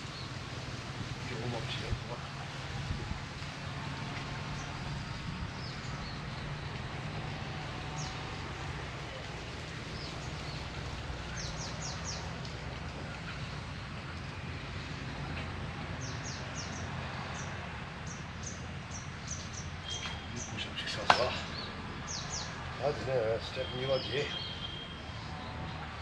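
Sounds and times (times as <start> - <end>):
small birds chirping: 0.0 - 0.4, 4.2 - 14.4, 15.2 - 25.9.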